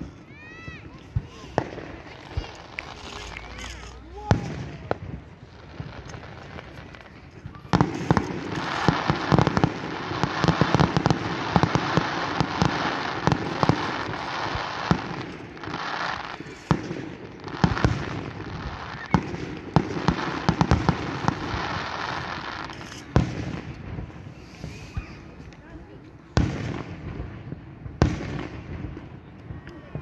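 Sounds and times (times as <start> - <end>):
fireworks bangs: 0.0 - 30.0
fireworks crackling fizz: 0.0 - 30.0.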